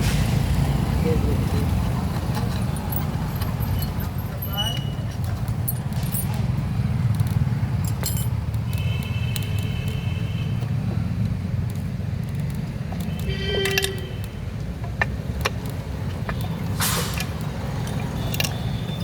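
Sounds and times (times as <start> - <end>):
hand tools tapping metal parts: 1.6 - 19.0.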